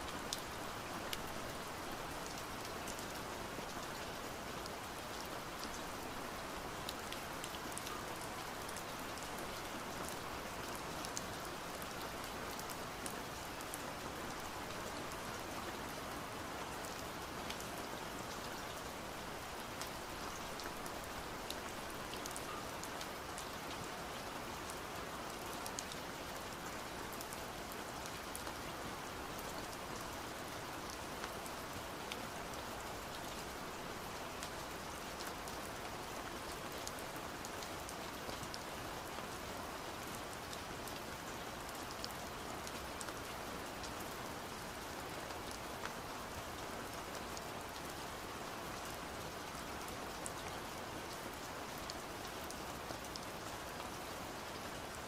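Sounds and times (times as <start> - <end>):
rain-like patter: 0.0 - 55.0.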